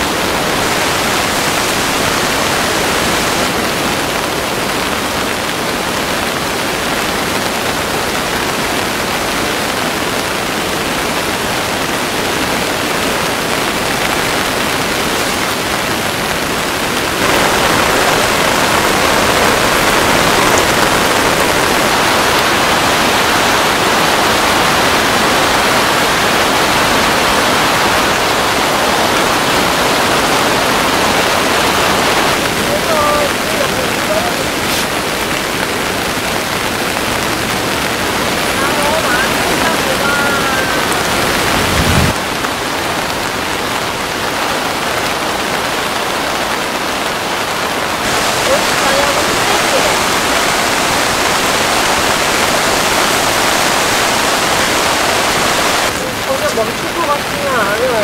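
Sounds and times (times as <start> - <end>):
heavy rain on tent tarp: 0.0 - 58.0.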